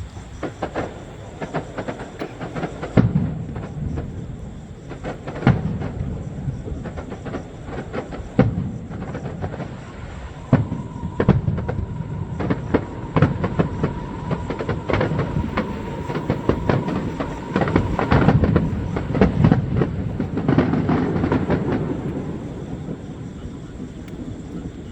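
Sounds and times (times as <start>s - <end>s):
continuous rumble: 0.0s - 24.9s
fireworks bangs and crackles: 0.0s - 24.9s.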